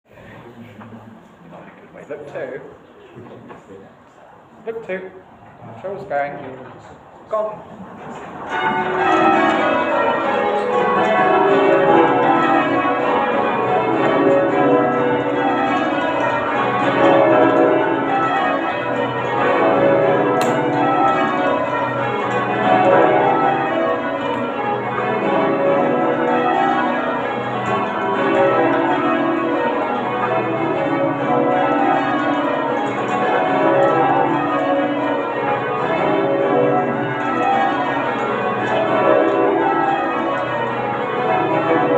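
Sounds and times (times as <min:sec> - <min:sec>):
church bells ringing: 0:08.0 - 0:41.9.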